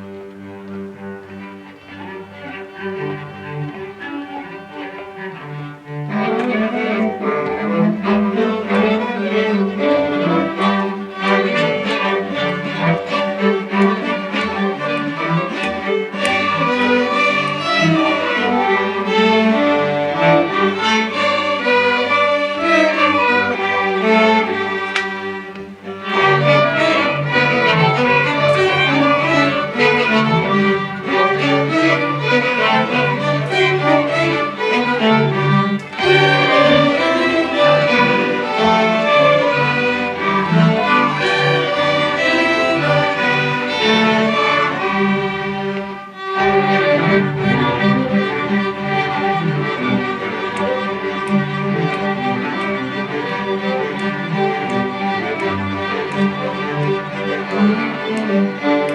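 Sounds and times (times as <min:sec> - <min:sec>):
string orchestra playing: 0:00.0 - 0:58.9.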